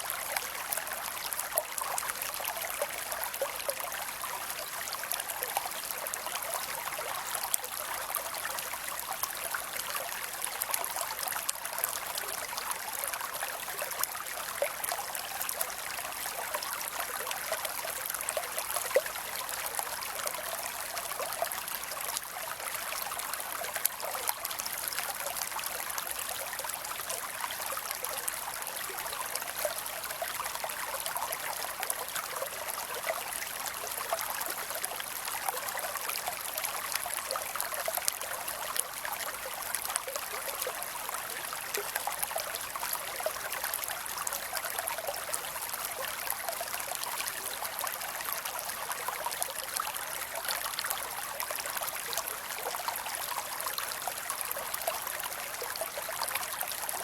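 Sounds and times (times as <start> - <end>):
creek water splashing over rocks: 0.0 - 57.0.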